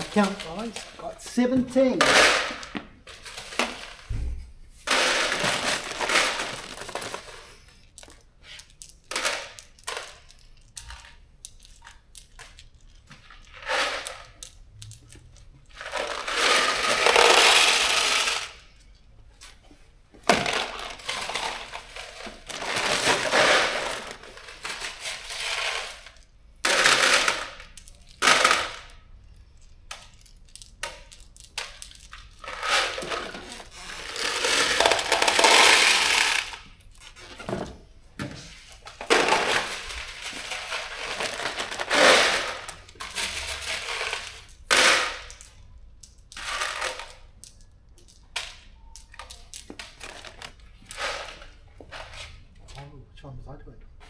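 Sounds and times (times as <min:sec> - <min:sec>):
metal bolts clinking: 0:00.0 - 0:04.1, 0:04.9 - 0:37.5, 0:38.4 - 0:51.7.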